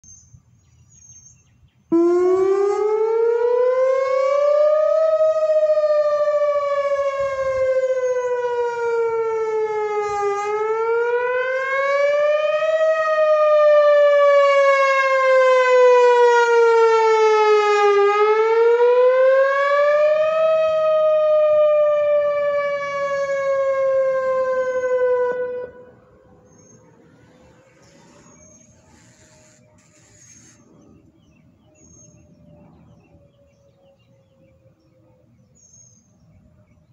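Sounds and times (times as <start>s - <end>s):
warning siren wailing: 1.9s - 35.6s.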